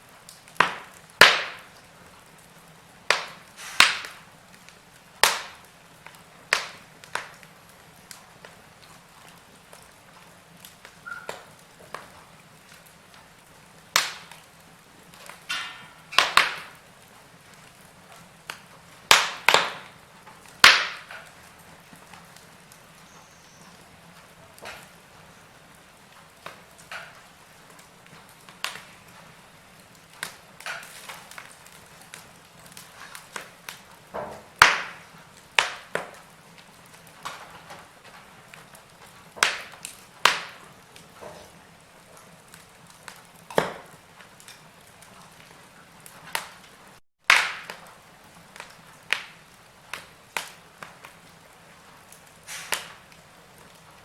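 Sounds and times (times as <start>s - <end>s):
faint steady hiss: 0.0s - 47.0s
wood fire crackling and popping: 0.0s - 54.0s.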